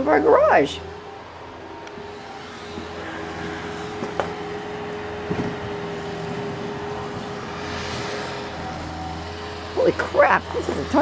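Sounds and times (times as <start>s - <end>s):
loader engine humming: 0.0s - 11.0s.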